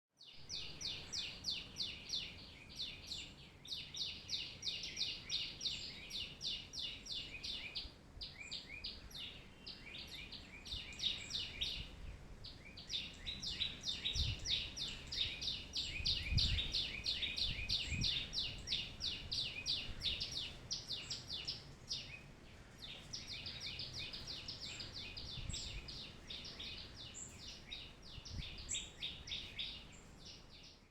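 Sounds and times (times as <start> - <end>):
sparrows chirping: 0.2 - 30.9.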